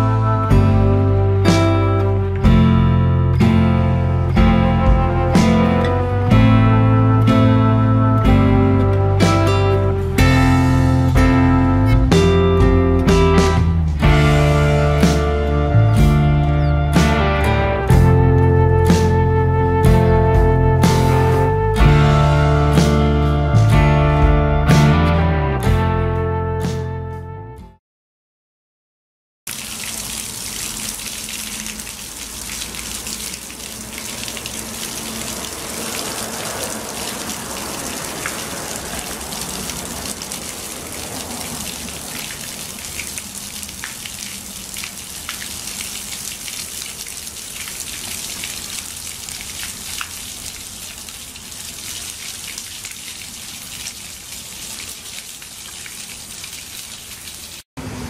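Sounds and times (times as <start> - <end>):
water splashing into fountain basin: 0.0 - 12.2, 13.1 - 23.8, 29.5 - 58.0.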